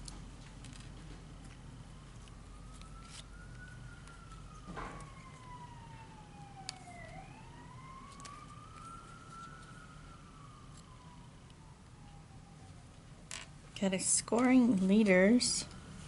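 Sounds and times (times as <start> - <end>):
faint siren wailing: 0.7 - 16.0.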